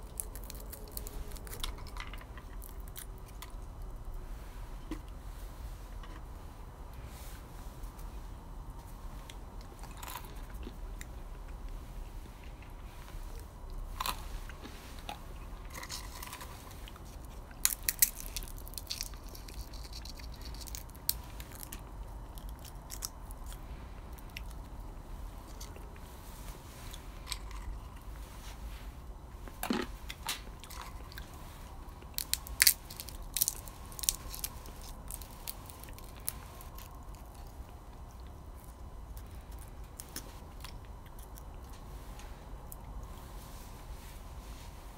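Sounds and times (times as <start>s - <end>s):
person chewing crunchy beans: 0.0s - 4.2s, 9.1s - 43.3s
low steady hum: 0.0s - 44.9s.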